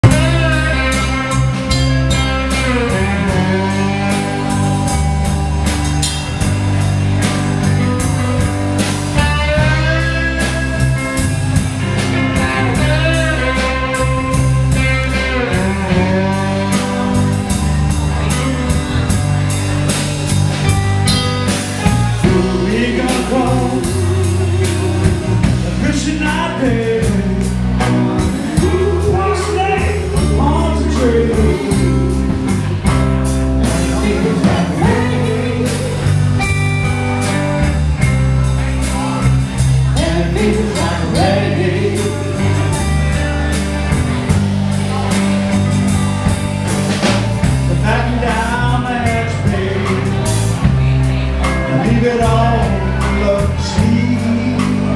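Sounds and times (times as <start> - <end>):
electric guitar lead line: 0.0 - 54.9
live blues band playing: 0.0 - 54.9.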